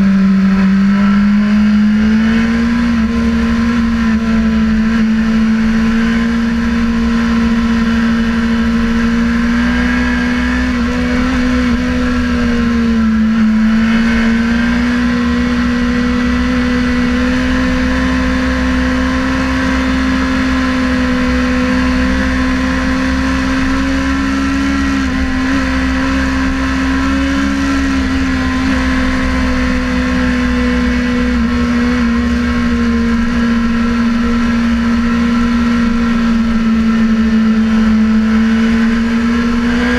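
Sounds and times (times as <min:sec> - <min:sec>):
sportbike engine revving high: 0:00.0 - 0:39.9.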